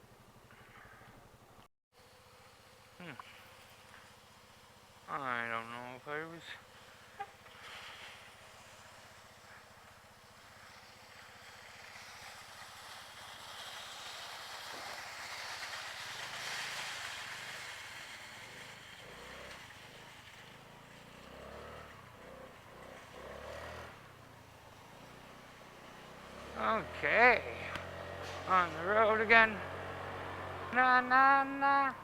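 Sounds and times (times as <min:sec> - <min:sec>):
vehicle passing by: 0:05.1 - 0:32.0.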